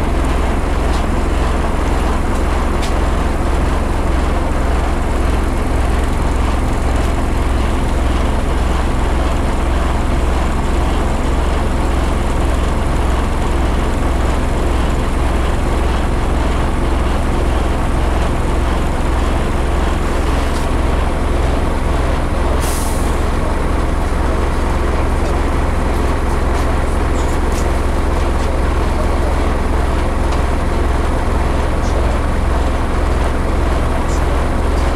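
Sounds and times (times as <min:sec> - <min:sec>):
bus diesel engine drone: 0:00.0 - 0:34.9.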